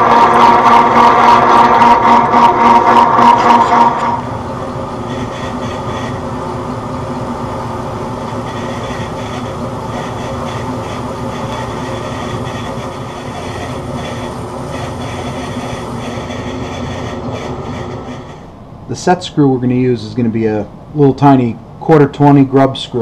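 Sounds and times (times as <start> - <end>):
metal lathe gears humming and clattering: 0.0 - 18.5.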